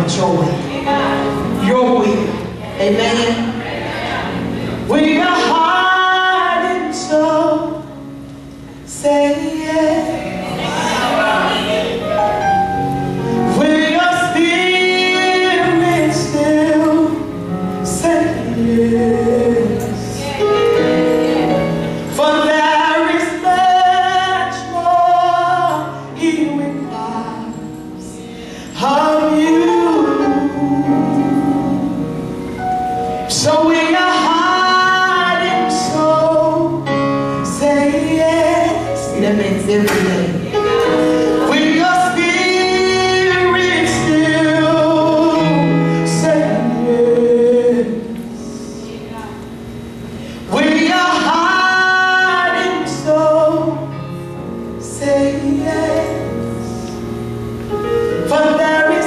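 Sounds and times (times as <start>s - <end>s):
woman singing gospel: 0.0s - 7.9s, 8.8s - 12.2s, 13.4s - 32.1s, 33.3s - 49.6s, 50.5s - 54.0s, 54.8s - 57.1s, 58.3s - 59.0s
sustained musical backing: 0.0s - 59.0s.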